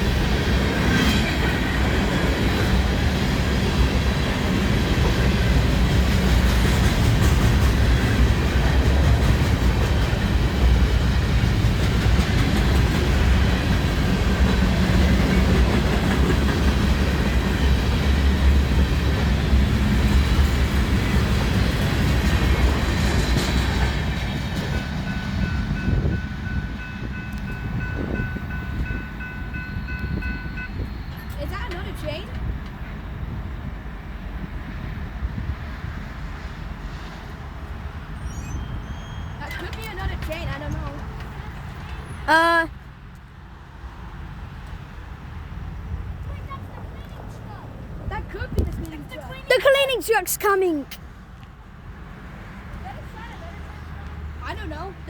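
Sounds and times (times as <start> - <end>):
clickety-clack of train cars: 0.0 - 50.1
freight train wheels rumbling on rail: 0.0 - 55.0.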